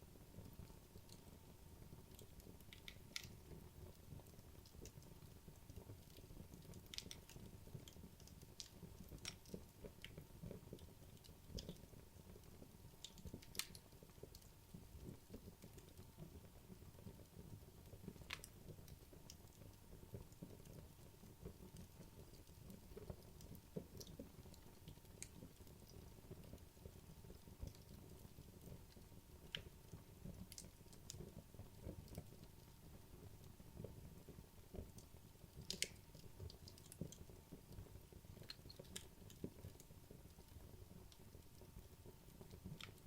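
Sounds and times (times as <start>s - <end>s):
logs crackling in a fireplace: 0.0s - 43.0s.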